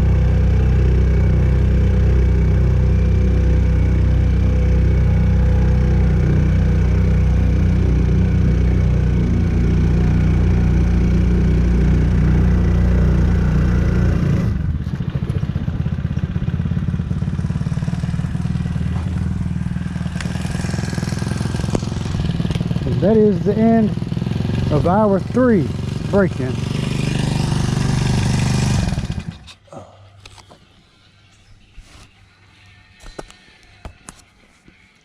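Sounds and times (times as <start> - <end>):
outboard motor running: 0.0 - 29.5.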